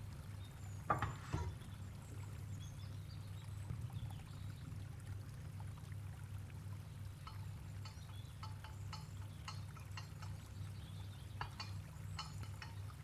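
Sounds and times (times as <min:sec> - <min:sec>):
liquid trickling faintly: 0:00.0 - 0:13.0.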